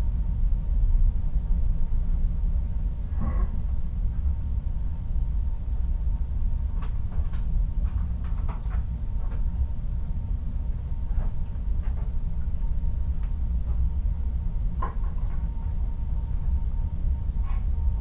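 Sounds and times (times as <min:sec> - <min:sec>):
deep ship rumble: 0:00.0 - 0:18.0.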